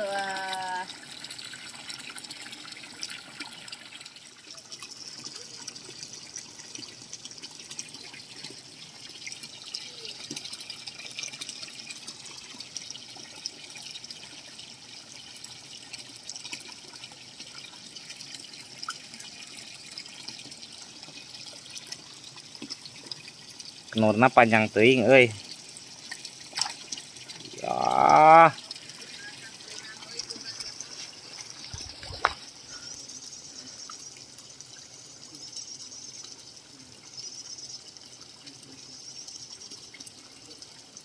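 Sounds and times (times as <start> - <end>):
water drips and splashes: 0.0 - 41.0
water trickling: 0.0 - 41.0.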